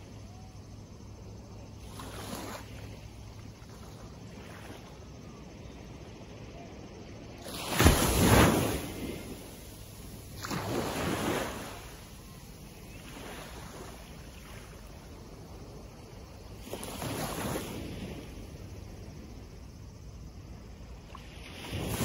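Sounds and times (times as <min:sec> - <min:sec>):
small waves breaking on beach: 0:00.0 - 0:22.0.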